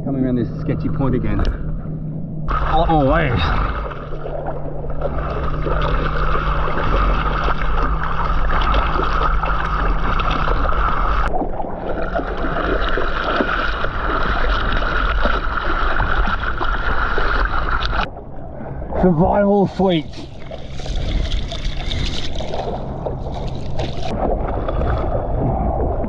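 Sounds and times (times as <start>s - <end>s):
steady low rumble: 0.0s - 26.0s
water sloshing around kayak: 2.4s - 26.0s.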